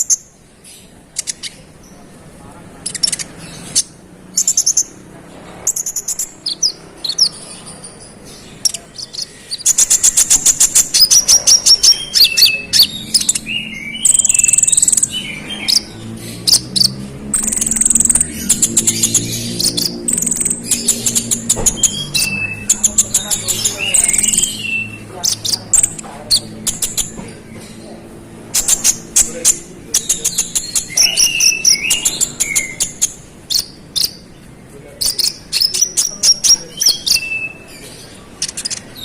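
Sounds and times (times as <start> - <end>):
bird singing chirps and trills: 0.0 - 39.0.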